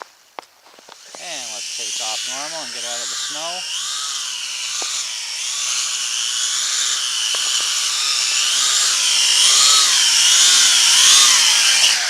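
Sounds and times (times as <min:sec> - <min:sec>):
toy quadcopter motors whining: 0:00.6 - 0:12.0.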